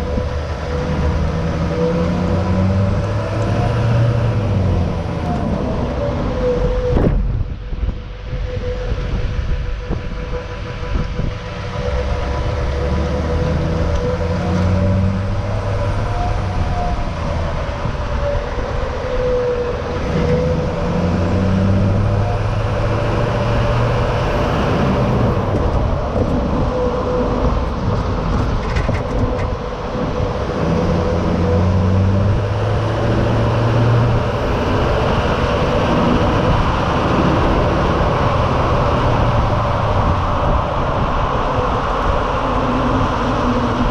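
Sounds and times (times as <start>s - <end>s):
diesel truck engine accelerating: 0.0s - 43.9s
road and wind noise: 0.0s - 43.9s.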